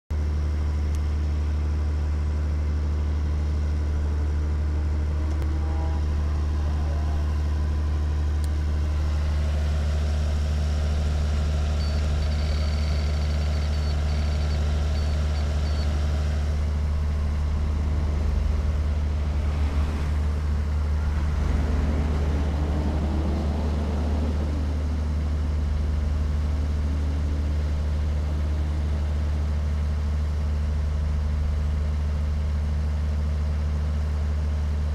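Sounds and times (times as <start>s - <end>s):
low engine-like drone: 0.1s - 34.9s.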